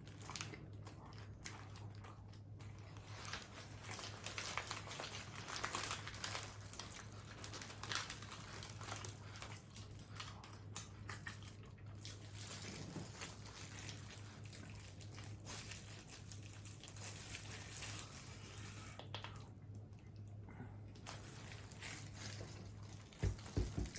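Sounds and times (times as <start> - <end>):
chewing food with crackles: 0.0 - 23.9.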